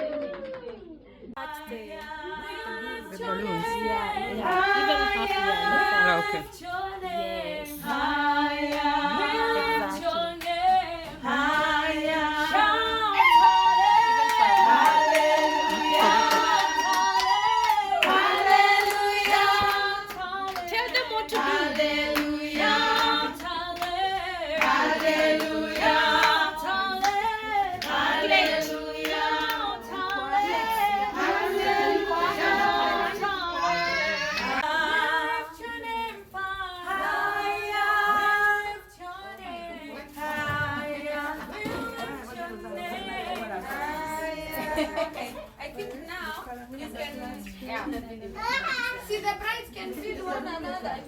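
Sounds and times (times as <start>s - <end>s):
women singing in chorus: 1.4s - 46.4s.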